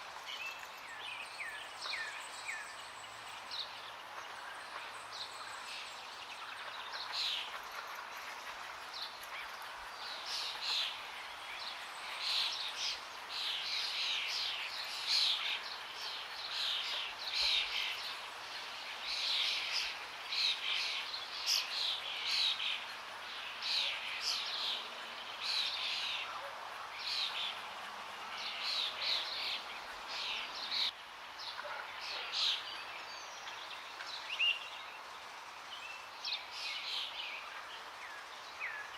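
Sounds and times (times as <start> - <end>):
flowing water: 0.0 - 38.9
birds chirping: 0.1 - 38.9.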